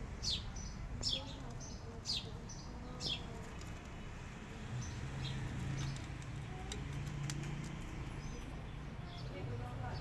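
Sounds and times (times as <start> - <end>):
bird chirping: 0.2 - 10.0.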